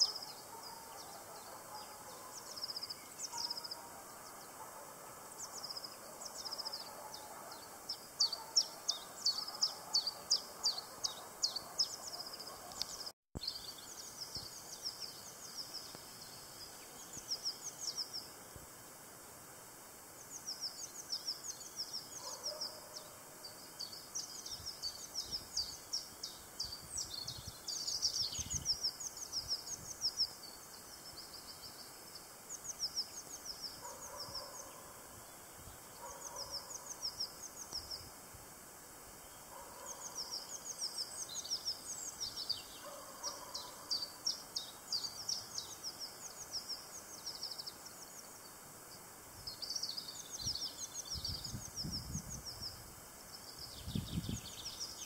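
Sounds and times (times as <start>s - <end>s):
songbird chirping: 0.0s - 18.4s, 20.0s - 38.2s, 38.9s - 55.0s.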